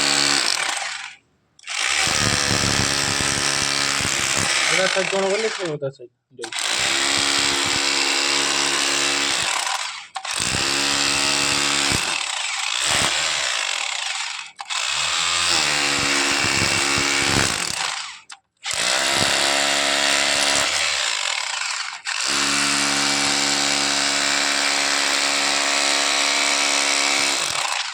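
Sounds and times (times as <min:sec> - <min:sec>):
electric power tool running: 0:00.0 - 0:05.7, 0:06.4 - 0:27.9.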